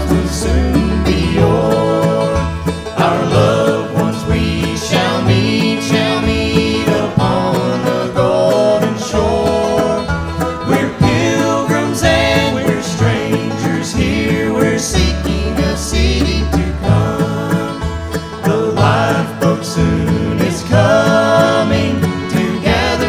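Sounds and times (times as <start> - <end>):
bluegrass band playing: 0.0 - 23.0.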